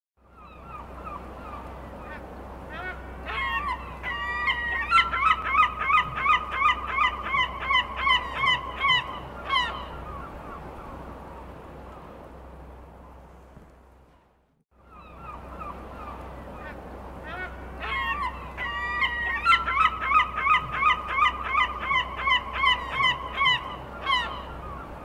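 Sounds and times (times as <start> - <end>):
gulls calling: 0.2 - 13.4, 14.8 - 25.0.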